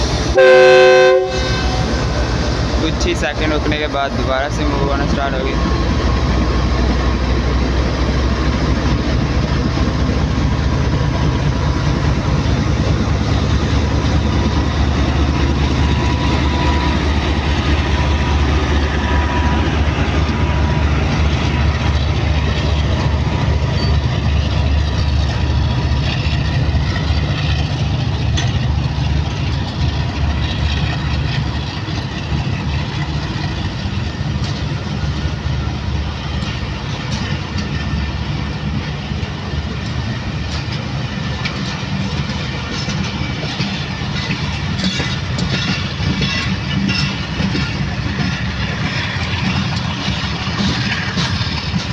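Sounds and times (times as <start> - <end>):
diesel locomotive engine rumble: 0.0 - 51.9
train coaches rolling on rails: 0.0 - 51.9.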